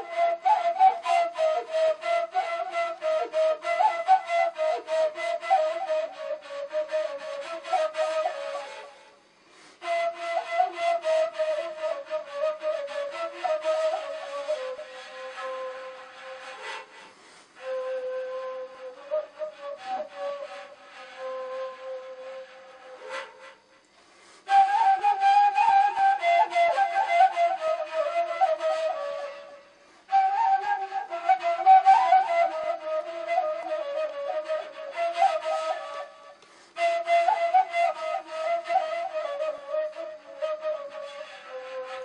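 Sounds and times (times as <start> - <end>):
flute melody: 0.0 - 42.0.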